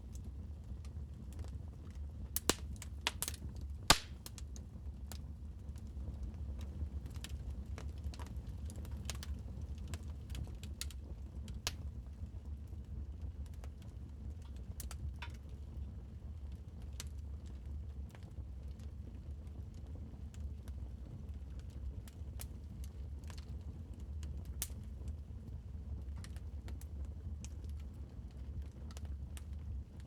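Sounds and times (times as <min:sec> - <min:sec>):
low rumble of burning fire: 0:00.0 - 0:30.0
wood fire crackling and popping: 0:00.0 - 0:30.0.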